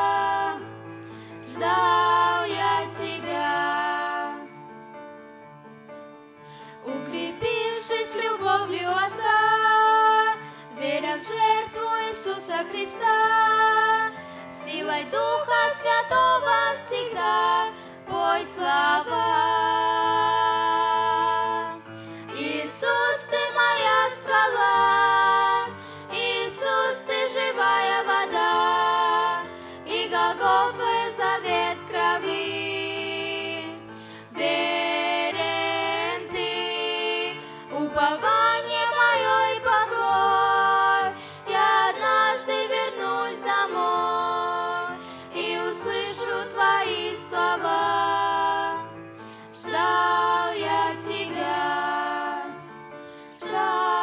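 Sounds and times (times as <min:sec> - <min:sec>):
girls singing a hymn: 0:00.0 - 0:04.6, 0:06.8 - 0:54.0
grand piano accompaniment: 0:00.0 - 0:54.0.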